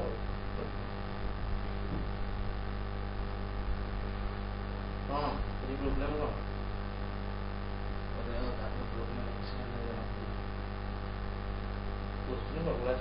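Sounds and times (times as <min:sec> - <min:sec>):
electrical mains hum: 0:00.0 - 0:13.0
low hiss: 0:00.0 - 0:13.0.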